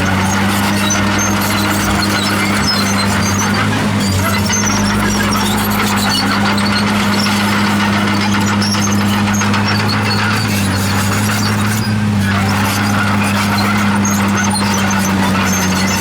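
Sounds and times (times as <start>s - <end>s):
bulldozer diesel engine humming: 0.0s - 16.0s
steel tracks squealing: 0.0s - 16.0s.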